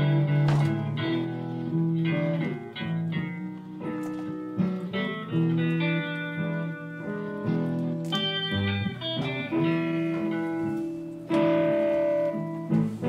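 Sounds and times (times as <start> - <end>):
instrumental music with sustained notes: 0.0 - 13.0.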